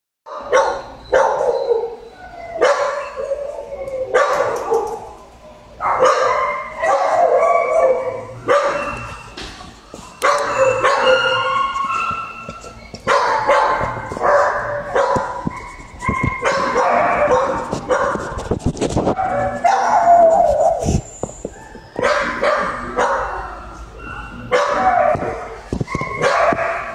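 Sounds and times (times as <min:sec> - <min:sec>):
dogs barking: 0:00.3 - 0:09.4, 0:10.2 - 0:26.9.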